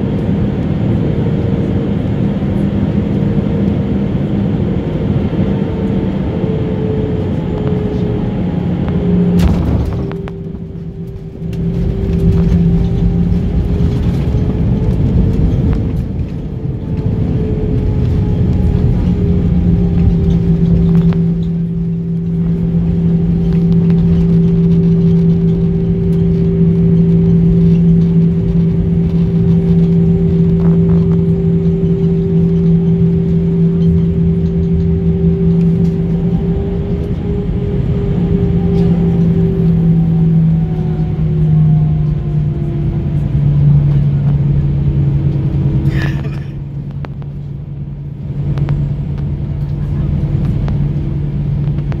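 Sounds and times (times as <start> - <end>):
jet engines reverse thrust drone: 0.0 - 52.0.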